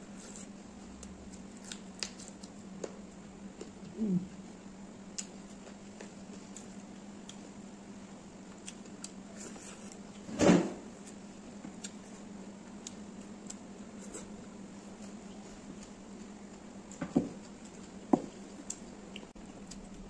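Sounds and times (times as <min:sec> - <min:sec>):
steady low hum: 0:00.0 - 0:20.0
person chewing and lip smacks: 0:00.2 - 0:07.6, 0:08.4 - 0:10.3, 0:11.0 - 0:20.0.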